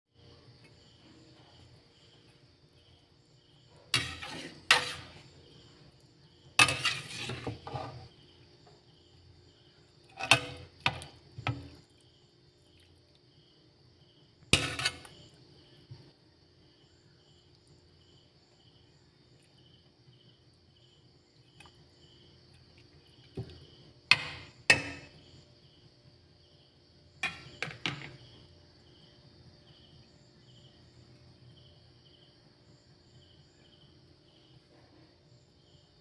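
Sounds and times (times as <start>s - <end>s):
crickets chirping: 0.1s - 36.0s.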